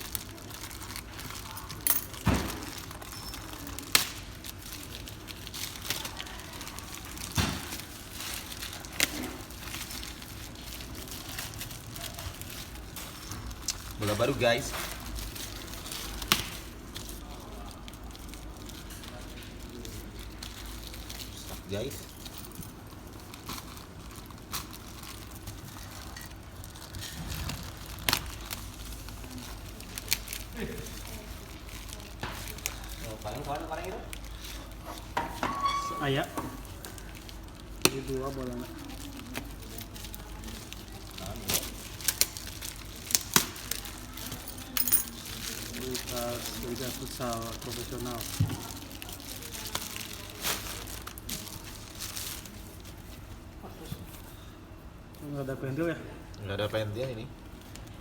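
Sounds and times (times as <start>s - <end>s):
packaging crinkling: 0.0s - 35.2s, 36.0s - 53.6s.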